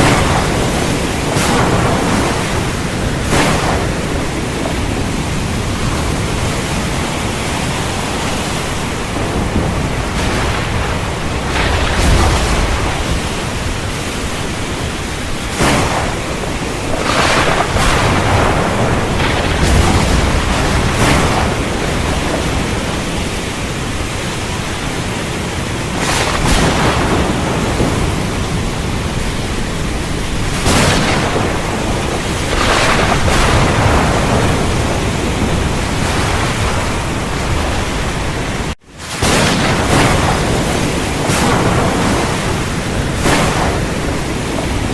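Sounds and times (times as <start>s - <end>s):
heavy rain falling: 0.0s - 44.9s
thunder rumbling: 0.0s - 44.9s.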